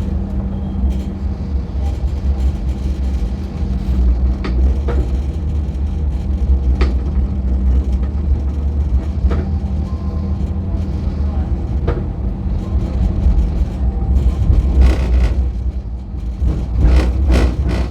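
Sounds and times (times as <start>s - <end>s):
rail car rumbling on track: 0.0s - 17.9s.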